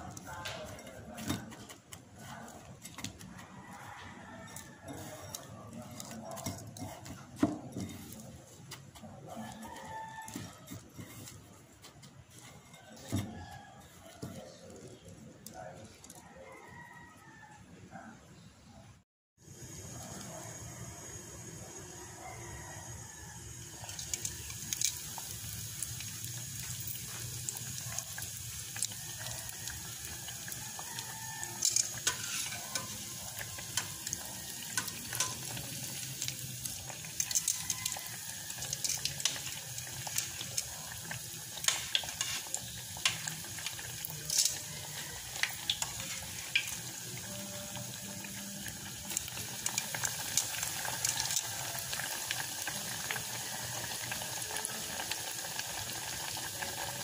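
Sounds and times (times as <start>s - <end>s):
deep-frying sizzle with pops: 0.0s - 17.6s, 19.4s - 57.0s.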